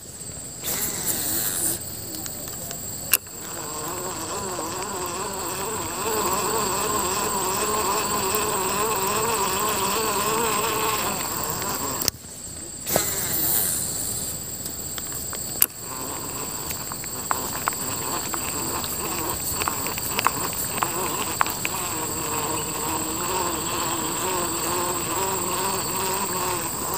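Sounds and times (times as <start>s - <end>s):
insects droning: 0.0s - 26.9s
buzzing fly: 0.6s - 2.3s, 3.1s - 12.1s, 12.8s - 14.4s, 15.4s - 26.9s.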